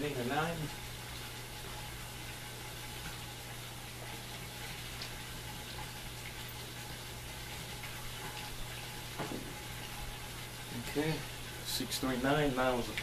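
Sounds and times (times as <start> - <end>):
water fountain trickling: 0.0 - 13.0.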